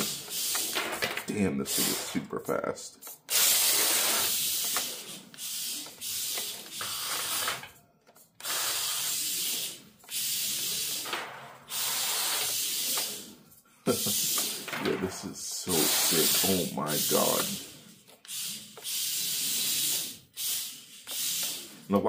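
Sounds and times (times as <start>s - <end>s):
toy car electric motor whirring: 0.0s - 2.2s, 3.0s - 22.0s.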